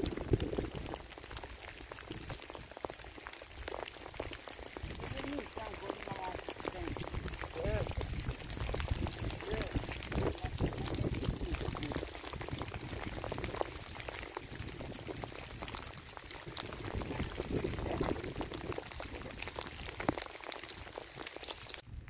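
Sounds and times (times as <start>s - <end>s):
rain falling: 0.0s - 21.9s.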